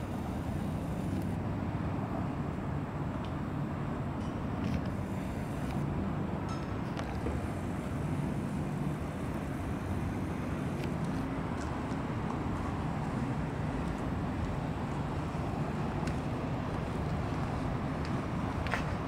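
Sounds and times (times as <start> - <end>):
distant city traffic rumble: 0.0 - 19.0.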